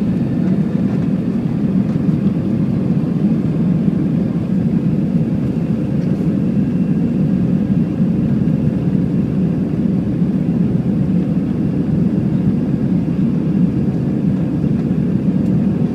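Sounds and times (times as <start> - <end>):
jet engine cabin roar: 0.0 - 15.9.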